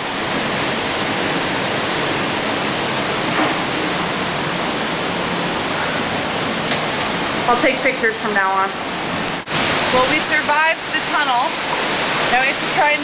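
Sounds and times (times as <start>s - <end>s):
water rushing in a tunnel: 0.0s - 13.0s.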